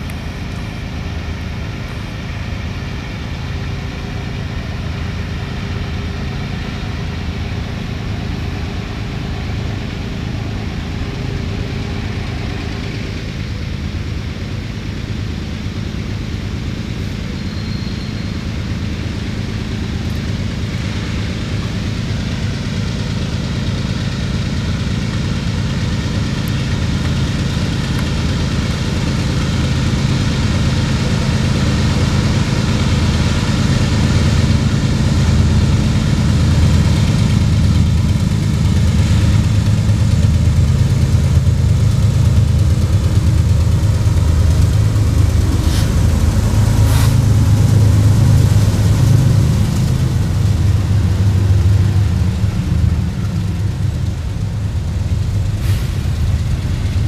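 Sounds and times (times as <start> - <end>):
freight locomotive engine drone: 0.0 - 57.0
train cars rolling by: 0.0 - 57.0
wheels clicking on rails: 0.0 - 57.0.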